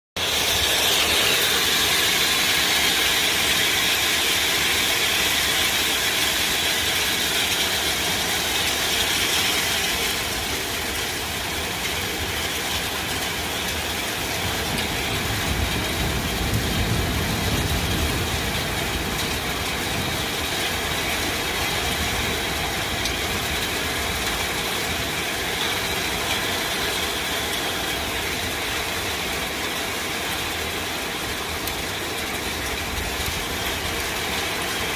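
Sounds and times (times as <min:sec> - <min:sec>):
hailstones rattling: 0:00.2 - 0:34.9.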